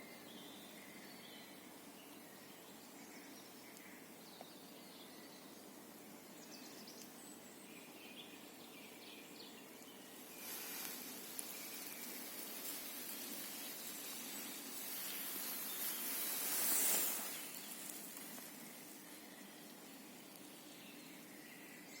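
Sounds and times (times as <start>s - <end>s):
outdoor noise hiss: 0.0s - 22.0s.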